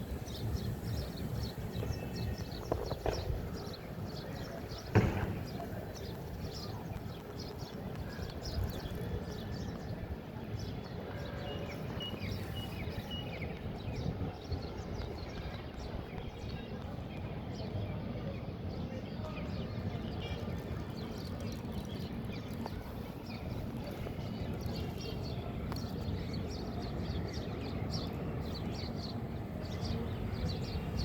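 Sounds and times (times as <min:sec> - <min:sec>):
small birds chirping: 0:00.0 - 0:18.4, 0:19.2 - 0:31.0.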